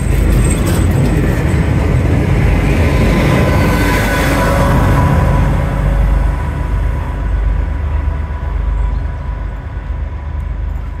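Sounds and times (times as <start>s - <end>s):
diesel train rumbling past: 0.0s - 11.0s
steady high whine: 0.0s - 11.0s.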